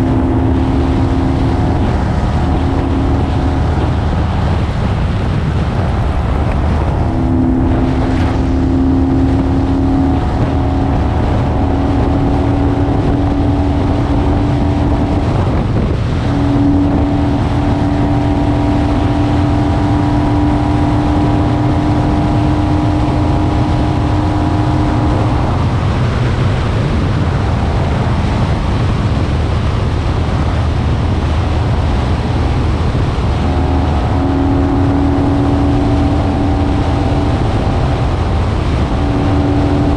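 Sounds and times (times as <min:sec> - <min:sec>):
motorcycle engine cruising: 0:00.0 - 0:39.9
road rumble: 0:00.0 - 0:39.9
wind rush on microphone: 0:00.0 - 0:39.9.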